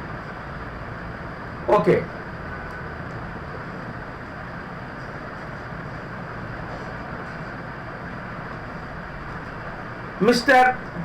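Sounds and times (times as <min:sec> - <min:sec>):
steady hiss and low rumble: 0:00.0 - 0:11.0.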